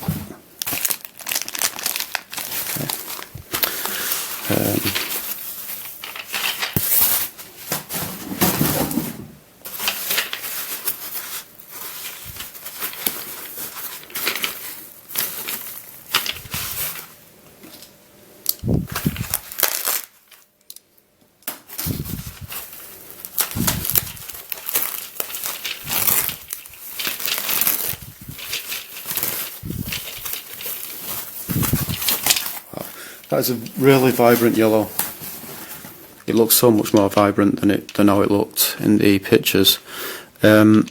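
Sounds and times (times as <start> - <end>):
packaging crinkling and tearing: 0.1 - 7.4, 9.7 - 17.2, 18.5 - 38.1.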